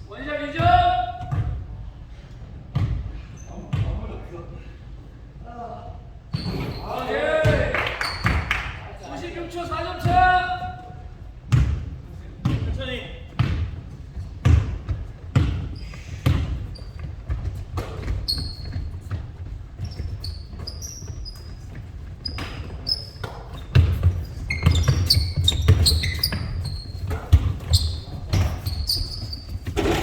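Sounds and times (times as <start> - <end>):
basketballs bouncing on gym floor: 0.5 - 1.9, 2.6 - 4.2, 6.3 - 8.8, 9.7 - 30.0
sneaker squeaks: 2.7 - 4.0, 6.3 - 11.8, 12.5 - 30.0.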